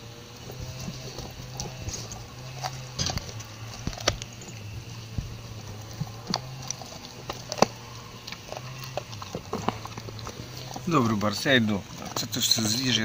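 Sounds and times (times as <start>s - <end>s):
dog chewing corn husk: 0.0s - 13.0s
low hum: 0.0s - 13.0s.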